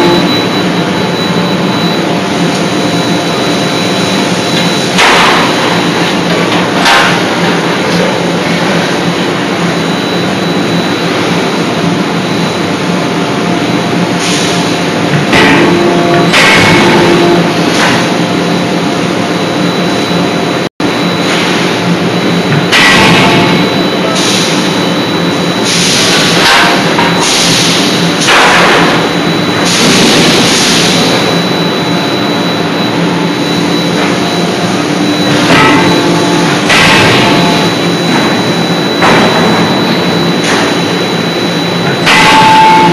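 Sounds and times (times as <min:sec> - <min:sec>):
machinery roaring: 0:00.0 - 0:42.9.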